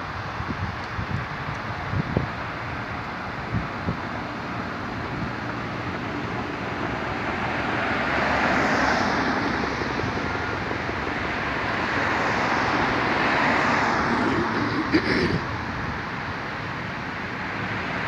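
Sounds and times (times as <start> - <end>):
road traffic: 0.0 - 18.0
wind: 0.0 - 18.0.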